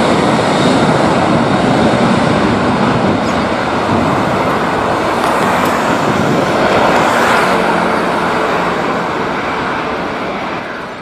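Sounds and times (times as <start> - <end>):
jet engines at high power: 0.0 - 11.0.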